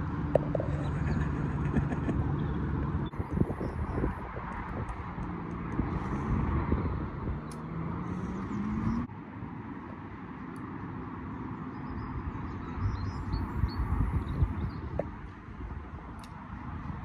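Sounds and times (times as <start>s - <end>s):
wind rumble on microphone: 0.0s - 9.1s, 11.8s - 17.0s.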